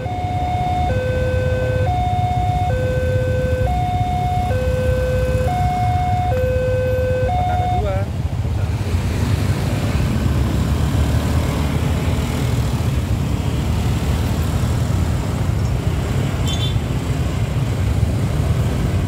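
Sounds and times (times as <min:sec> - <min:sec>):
motorbike engines running: 0:00.0 - 0:19.0.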